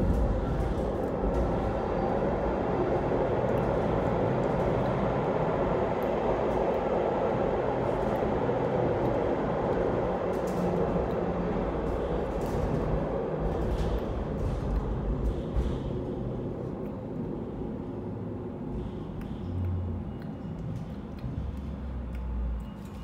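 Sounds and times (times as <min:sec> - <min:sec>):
funicular car running on rails: 0:00.0 - 0:23.0.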